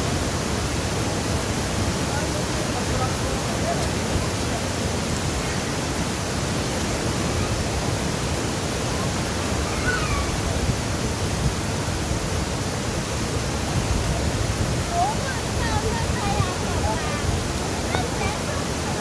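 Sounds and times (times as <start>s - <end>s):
waterfall rushing and splashing: 0.0s - 19.0s.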